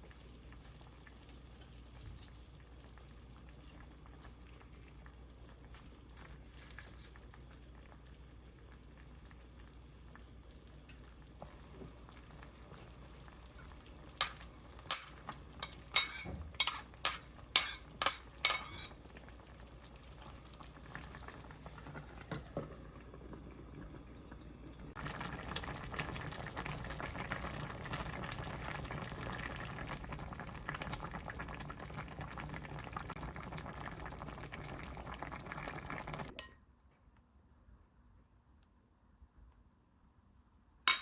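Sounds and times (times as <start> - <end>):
food boiling in a pot: 0.0 - 36.5.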